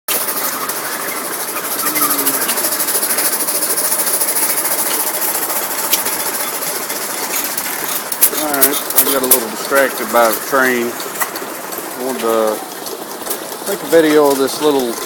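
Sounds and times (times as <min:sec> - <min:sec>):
gasoline engine clattering: 0:00.1 - 0:15.0.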